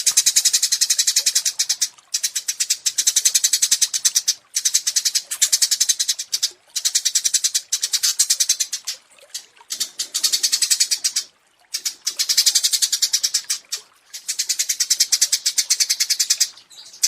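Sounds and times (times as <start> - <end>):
songbird trilling: 0.0 - 17.0.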